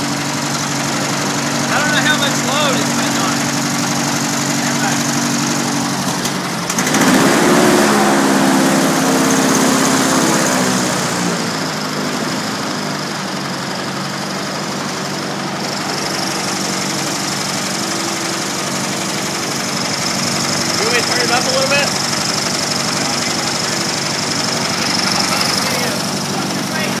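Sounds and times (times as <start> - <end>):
small engine driving propeller: 0.0 - 27.0.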